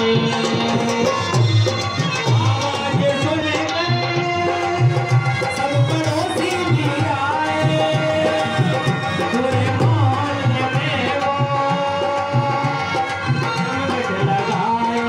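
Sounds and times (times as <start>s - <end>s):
folk dance melody: 0.0s - 15.0s
person singing: 0.0s - 15.0s.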